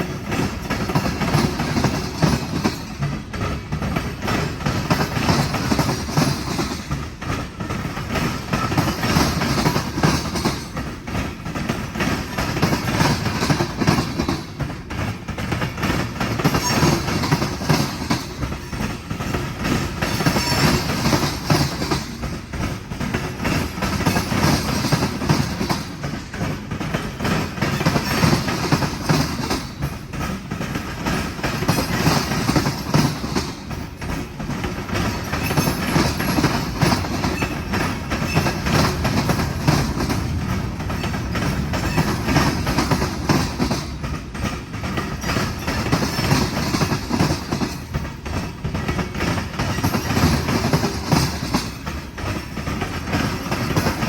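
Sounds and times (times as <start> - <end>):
train rumble: 0.0 - 54.0
train wheels clacking on rails: 0.0 - 54.0.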